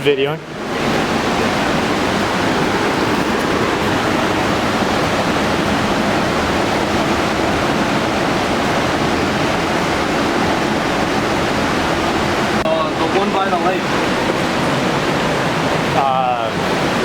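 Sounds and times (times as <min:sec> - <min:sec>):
river water rushing over boulders: 0:00.0 - 0:17.0.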